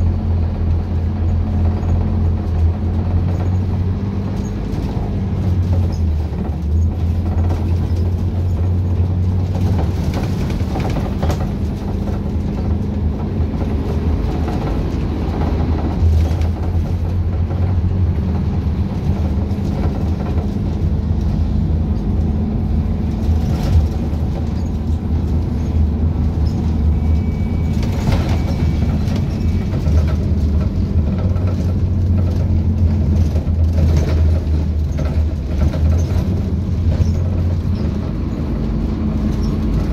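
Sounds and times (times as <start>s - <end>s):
bus diesel engine drone: 0.0s - 39.9s
rattling body and fittings: 1.3s - 21.4s, 27.6s - 39.9s.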